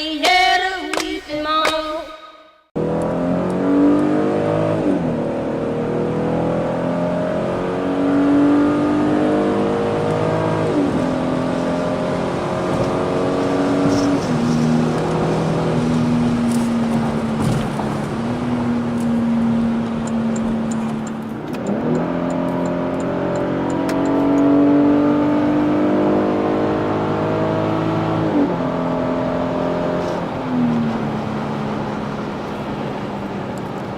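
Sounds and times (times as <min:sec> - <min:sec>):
car engine revving: 0:02.8 - 0:33.9.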